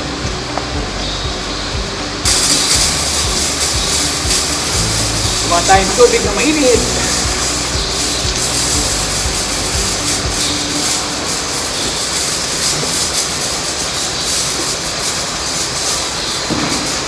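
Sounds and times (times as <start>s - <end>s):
milking machinery rushing noise: 0.0s - 17.0s.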